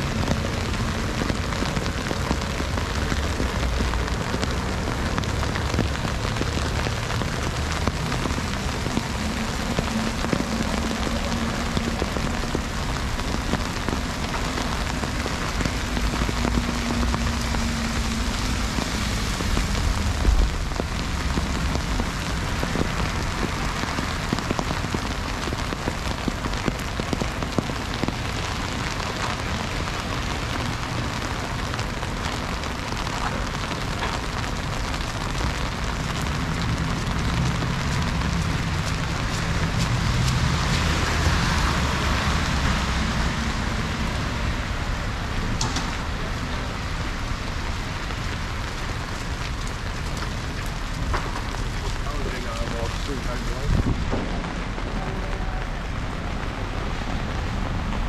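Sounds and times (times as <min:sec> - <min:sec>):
heavy freezing rain: 0:00.0 - 0:58.0.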